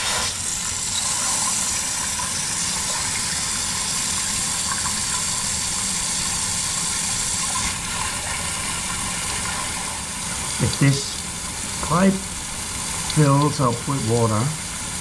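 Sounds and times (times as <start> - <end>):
hose water pouring into pipe: 0.0 - 15.0.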